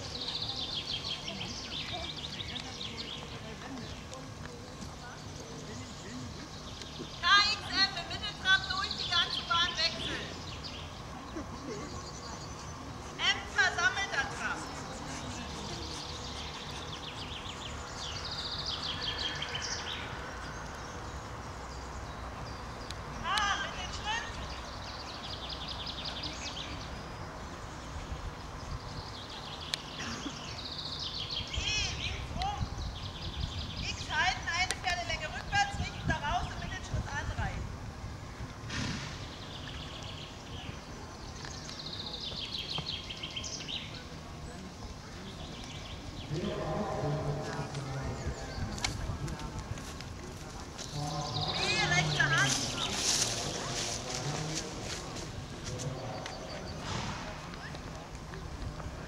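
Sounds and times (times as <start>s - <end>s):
songbird chirping: 0.0s - 37.5s, 38.3s - 59.0s
low outdoor background noise: 0.0s - 59.0s.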